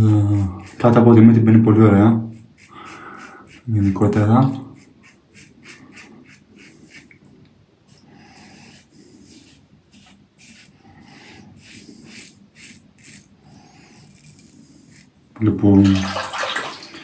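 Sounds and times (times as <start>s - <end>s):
razor scraping stubble: 0.0s - 15.2s.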